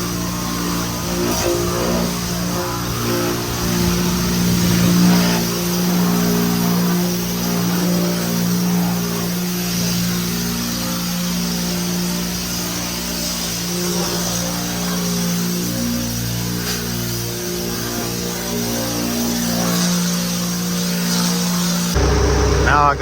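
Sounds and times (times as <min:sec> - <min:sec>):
pressure washer motor hum: 0:00.0 - 0:23.0.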